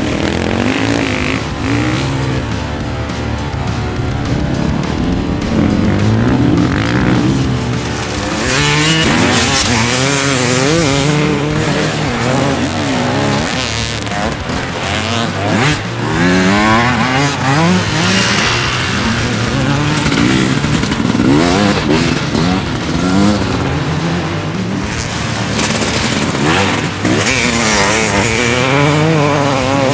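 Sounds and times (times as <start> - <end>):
motorcycle engines revving: 0.0 - 29.9.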